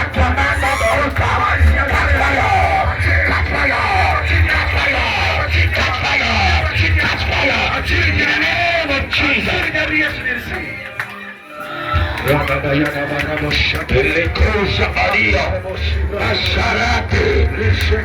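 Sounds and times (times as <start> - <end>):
deep bass church music: 0.0 - 11.1, 11.7 - 18.0
congregation yelling and singing: 0.0 - 18.0.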